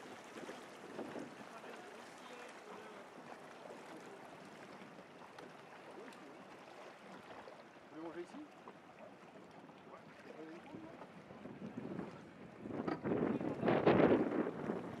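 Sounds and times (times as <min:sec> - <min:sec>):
water lapping around boat: 0:00.0 - 0:15.0.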